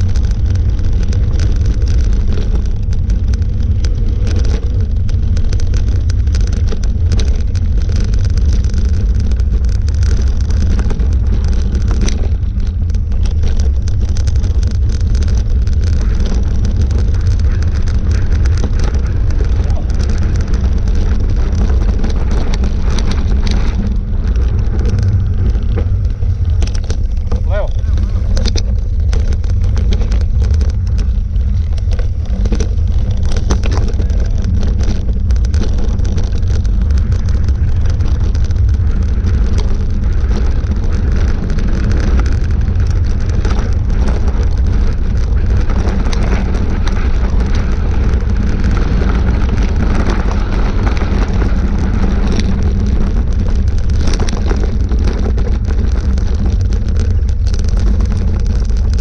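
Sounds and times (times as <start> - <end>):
knocks and rattles: 0.0 - 59.0
vehicle engine running: 0.0 - 59.0
wind rumble on microphone: 0.0 - 59.0.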